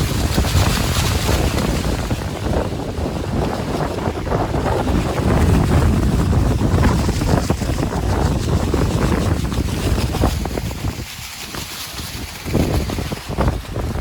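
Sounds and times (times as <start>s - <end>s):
sea surf rushing: 0.0s - 14.0s
wind buffeting microphone: 0.0s - 14.0s.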